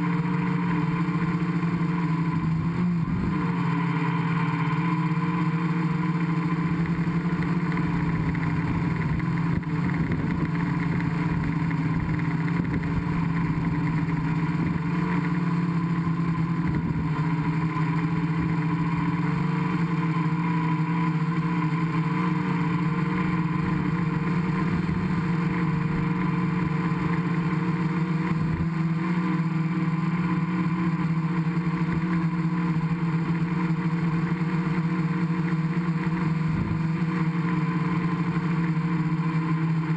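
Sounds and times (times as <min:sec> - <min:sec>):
drone propellers droning: 0:00.0 - 0:39.9.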